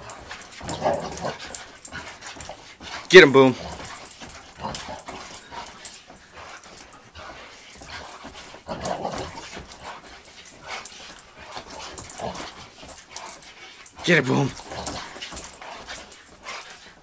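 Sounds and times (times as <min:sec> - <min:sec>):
dog scuffling and chewing: 0:00.0 - 0:17.0.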